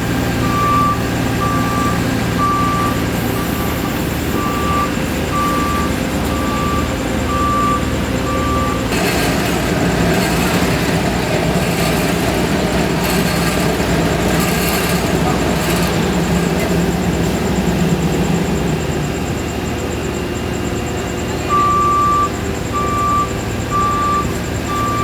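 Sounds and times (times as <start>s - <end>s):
heavy machine engine running: 0.0s - 25.0s
reversing alarm beeping: 0.1s - 25.0s.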